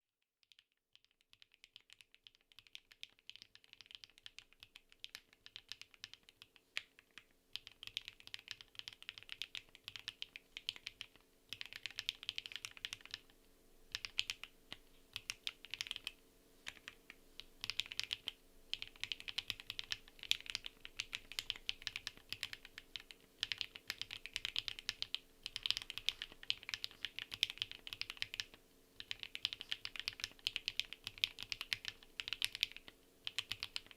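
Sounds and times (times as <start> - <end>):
mechanical keyboard typing: 0.5 - 13.3, 13.9 - 33.9.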